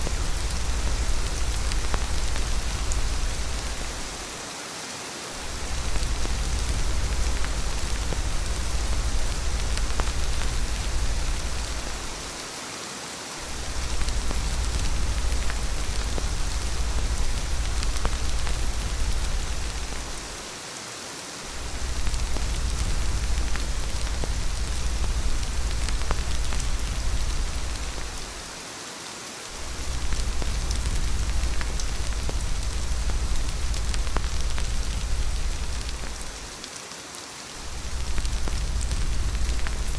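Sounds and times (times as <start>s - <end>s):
deep low rumble: 0.0s - 4.2s, 5.4s - 12.3s, 13.4s - 20.4s, 21.6s - 28.4s, 29.6s - 36.5s, 37.6s - 39.9s
rain drop ticks: 0.0s - 4.5s, 5.3s - 12.5s, 13.4s - 20.6s, 21.5s - 28.5s, 29.5s - 36.9s, 37.5s - 39.9s
heavy rain: 0.0s - 39.9s.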